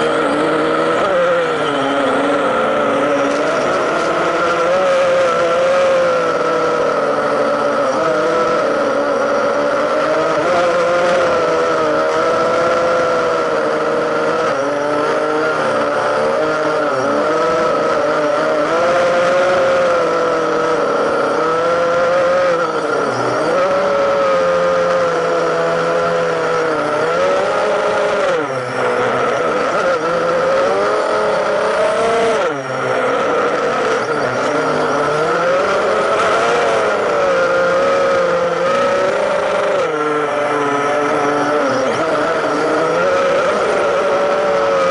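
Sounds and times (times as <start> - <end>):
drone propellers whining: 0.0 - 44.9.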